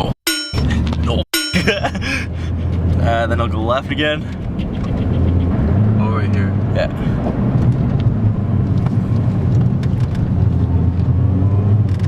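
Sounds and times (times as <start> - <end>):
road noise: 0.0 - 12.0
car engine running: 0.6 - 11.2.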